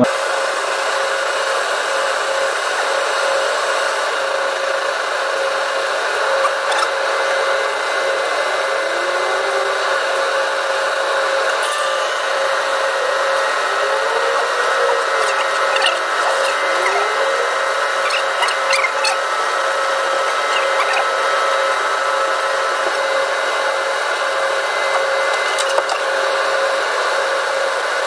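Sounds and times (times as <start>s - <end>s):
air conditioner hissing and humming: 0.0s - 28.0s.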